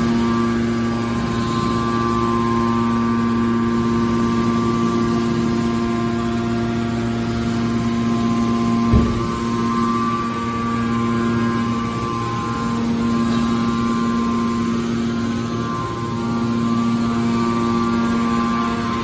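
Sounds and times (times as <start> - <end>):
hydraulic motor and pump hum: 0.0 - 19.0.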